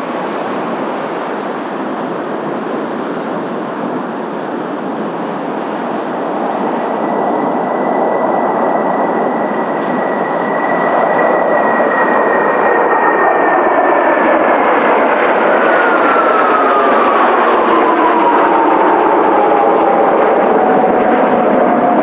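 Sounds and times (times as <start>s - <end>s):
high jet engine whine: 0.0s - 22.0s
jet roar: 0.0s - 22.0s.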